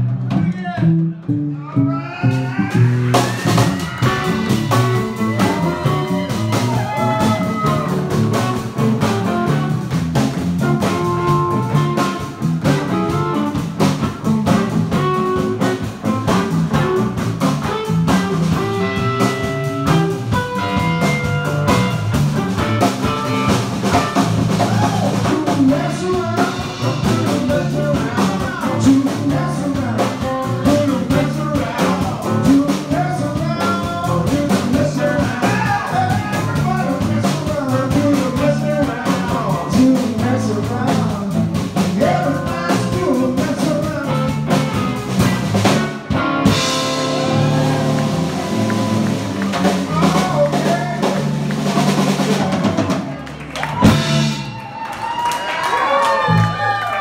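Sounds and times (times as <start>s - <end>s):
drum kit: 0.0s - 1.6s, 2.2s - 57.0s
electric guitars: 0.8s - 57.0s.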